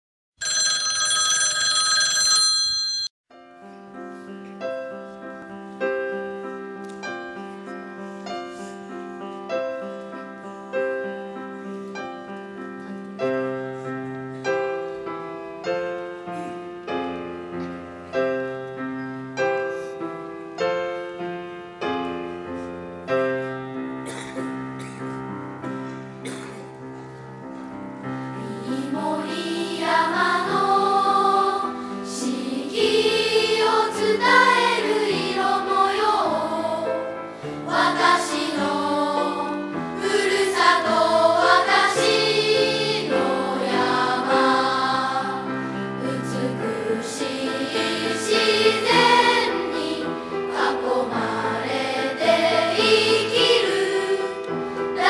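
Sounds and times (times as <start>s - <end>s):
gentle piano tune: 3.3s - 55.0s.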